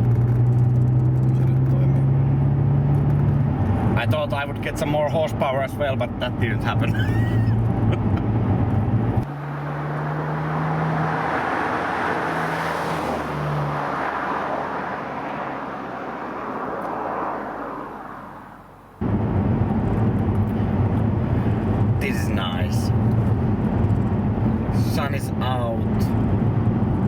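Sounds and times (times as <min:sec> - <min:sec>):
car engine drone in cabin: 0:00.0 - 0:27.0
car road and tyre noise: 0:00.0 - 0:27.0.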